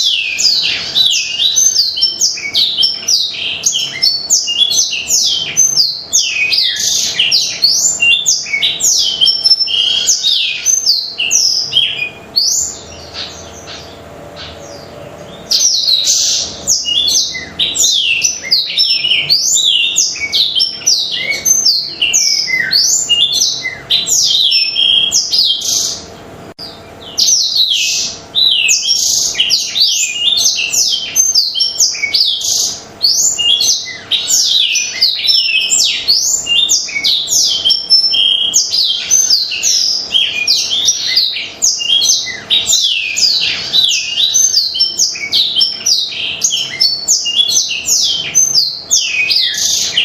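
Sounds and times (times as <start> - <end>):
canary singing fast chatter: 0.0 - 50.0.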